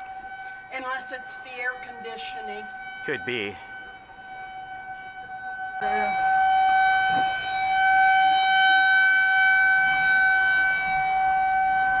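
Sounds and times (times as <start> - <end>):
warning siren steady tone: 0.0 - 12.0.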